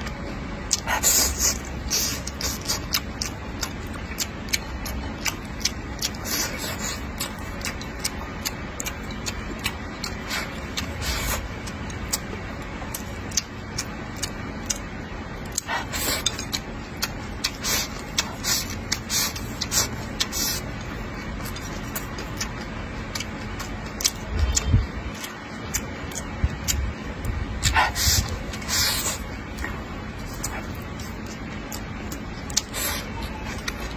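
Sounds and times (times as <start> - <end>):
chewing and mouth smacking: 0.0 - 33.9
steady low hum: 0.0 - 33.9.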